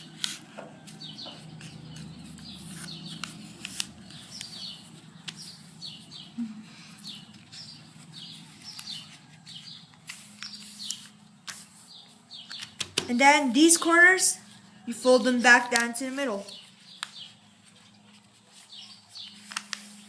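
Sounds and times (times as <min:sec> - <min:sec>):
paper being folded: 0:00.0 - 0:12.8, 0:16.5 - 0:20.0
bird chirping: 0:00.0 - 0:20.0.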